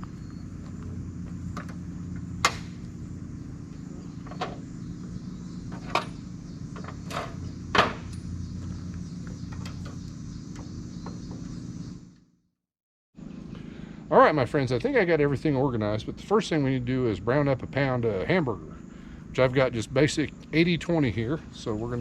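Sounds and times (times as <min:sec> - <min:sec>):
steady low hum: 0:00.0 - 0:12.2, 0:13.2 - 0:22.0.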